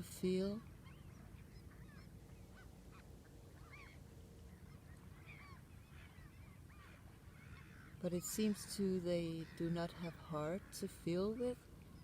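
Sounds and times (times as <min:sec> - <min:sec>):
low steady rumble: 0:00.0 - 0:12.0
flock of birds honking: 0:00.7 - 0:12.0.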